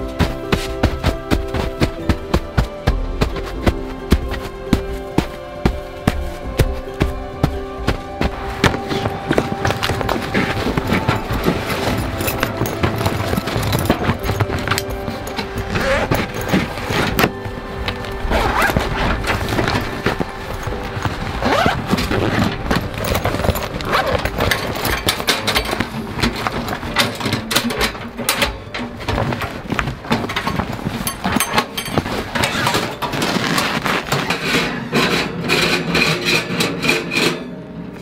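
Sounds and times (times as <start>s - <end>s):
fabric bag rustling: 0.0s - 34.4s
metal stove parts clanking: 6.4s - 38.0s.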